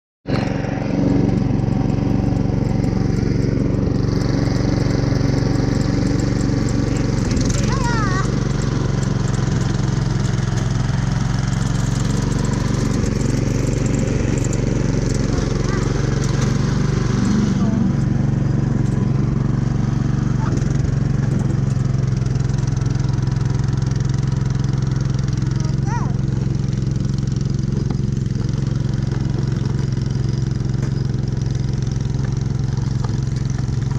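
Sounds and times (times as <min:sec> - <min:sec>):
snowblower engine running: 0:00.3 - 0:33.9.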